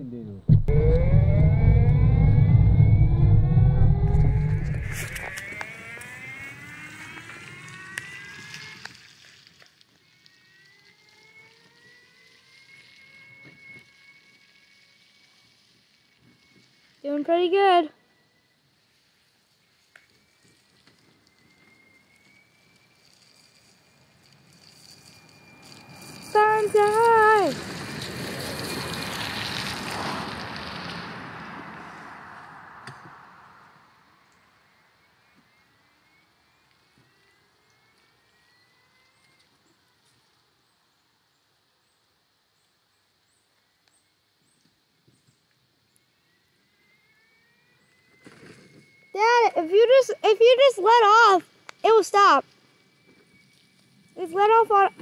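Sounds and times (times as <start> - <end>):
electric toy car motor whining: 0.5 - 31.0, 35.2 - 40.5, 46.0 - 55.0.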